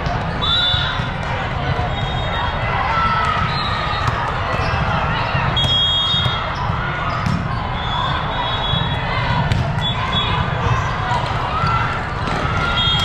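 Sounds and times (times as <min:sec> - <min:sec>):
volleyballs hit and bouncing: 0:00.0 - 0:02.1, 0:02.7 - 0:13.0.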